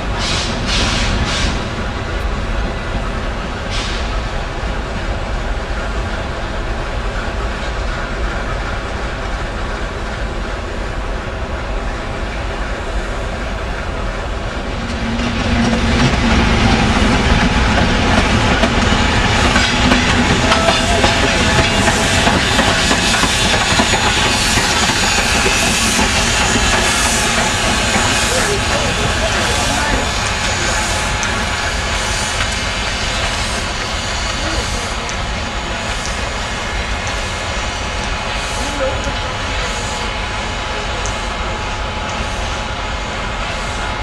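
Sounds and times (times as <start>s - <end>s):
steam hissing: 0.0s - 2.2s, 3.6s - 4.4s, 11.6s - 44.0s
steam locomotive running: 0.0s - 44.0s.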